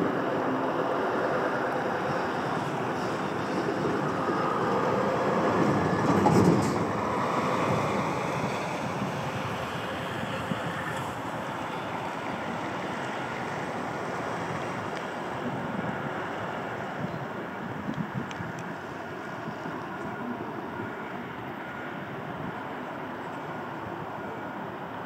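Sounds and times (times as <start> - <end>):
tram wheels rumbling: 0.0 - 25.0.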